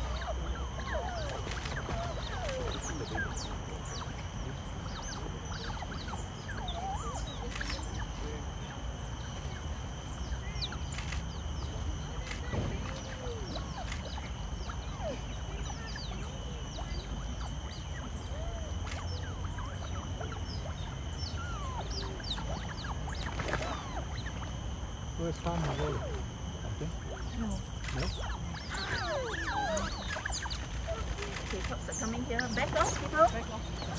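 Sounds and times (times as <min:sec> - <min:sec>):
otters chirping and squeaking: 0:00.0 - 0:33.9
steady high hum: 0:00.0 - 0:33.9.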